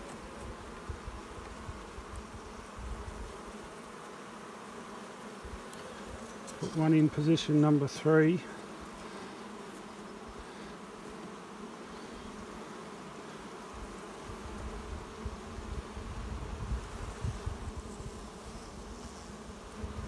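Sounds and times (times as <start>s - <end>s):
honeybees humming: 0.0s - 20.0s.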